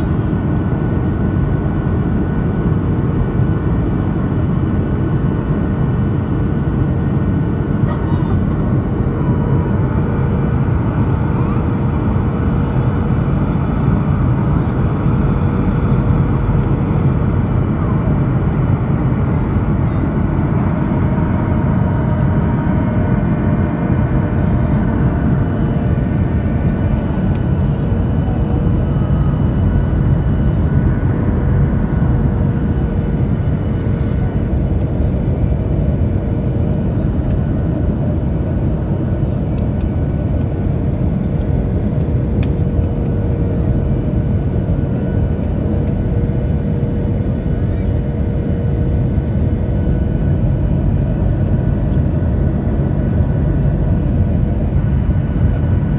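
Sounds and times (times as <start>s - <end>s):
jet engines and airflow rushing: 0.0s - 55.9s
faint hum: 6.8s - 55.9s.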